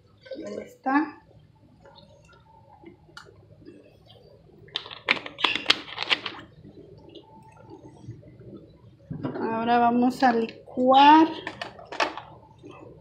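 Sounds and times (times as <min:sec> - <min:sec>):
faint background noise: 0:00.0 - 0:13.0.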